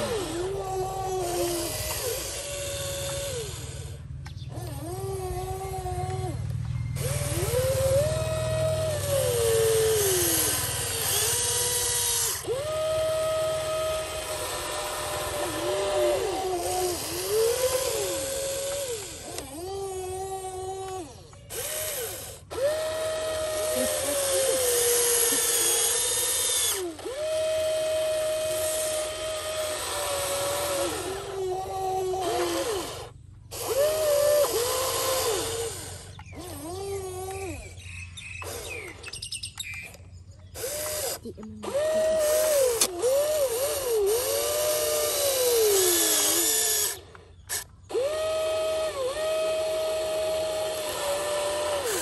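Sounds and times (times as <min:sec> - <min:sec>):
toy excavator motors whining: 0:00.0 - 0:52.0.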